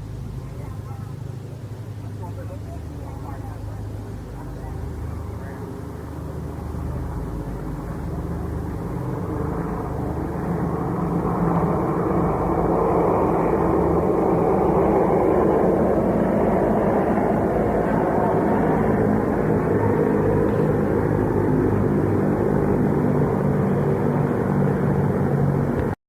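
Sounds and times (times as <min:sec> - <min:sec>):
airplane engine passing overhead: 0:00.0 - 0:26.0.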